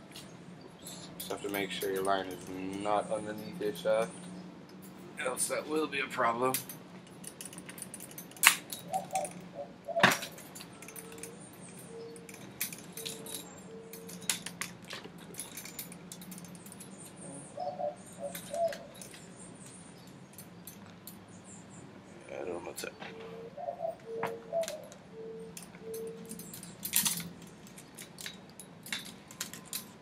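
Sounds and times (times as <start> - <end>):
light clicks and metallic rattles: 0.2 - 17.4, 18.0 - 21.6, 24.0 - 30.0.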